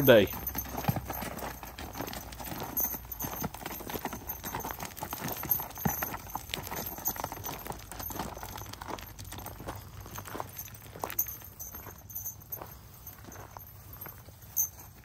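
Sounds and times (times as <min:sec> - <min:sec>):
mule hooves clip-clopping: 0:00.0 - 0:15.0.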